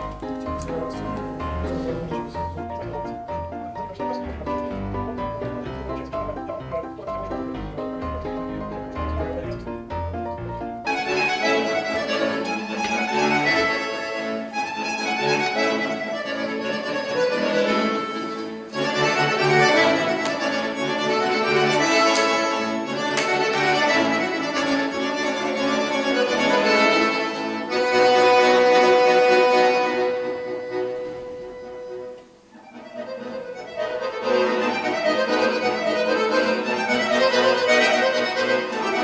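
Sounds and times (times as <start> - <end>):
accordion playing lively piece: 0.0 - 39.0.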